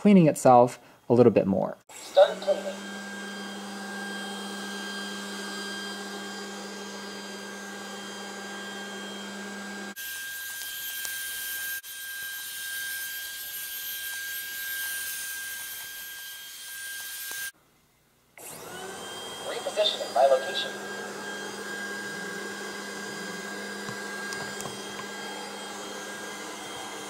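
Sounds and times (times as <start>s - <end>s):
robot vacuum cleaner whirring: 1.9s - 17.5s, 18.4s - 27.0s.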